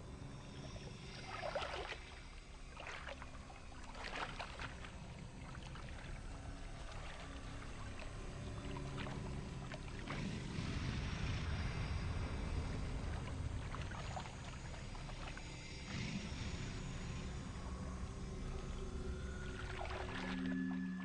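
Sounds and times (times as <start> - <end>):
low steady rumble: 0.0 - 21.0
water splashing and sloshing: 0.0 - 21.0.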